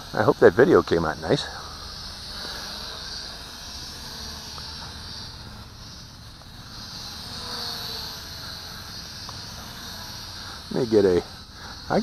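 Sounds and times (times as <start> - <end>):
high insect trill: 0.0 - 12.0
toy drone propellers buzzing: 0.0 - 12.0.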